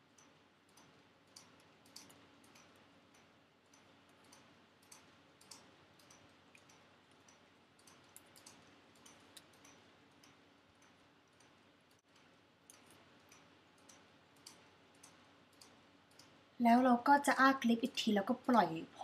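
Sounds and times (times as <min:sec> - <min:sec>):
small irregular clicks: 0:00.0 - 0:16.6.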